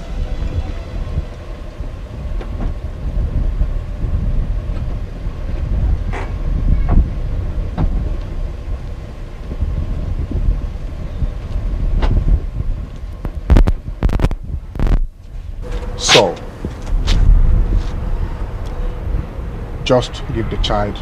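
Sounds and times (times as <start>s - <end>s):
car engine rumbling: 0.0s - 21.0s
wind buffeting microphone: 0.0s - 21.0s.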